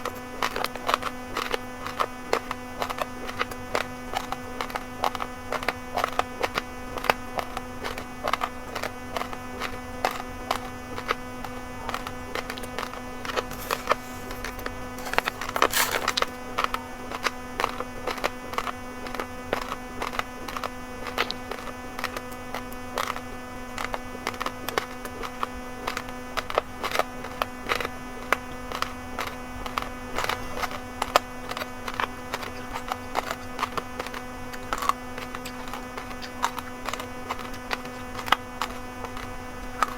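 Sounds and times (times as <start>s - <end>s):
rice grains crunched and chewed: 0.0s - 39.9s
steady electrical hum: 0.0s - 39.9s.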